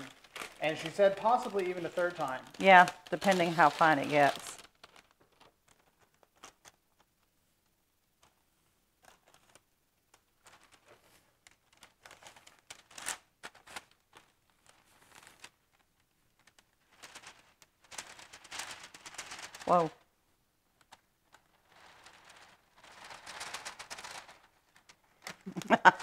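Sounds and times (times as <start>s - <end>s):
parchment paper crinkling: 0.0s - 26.0s.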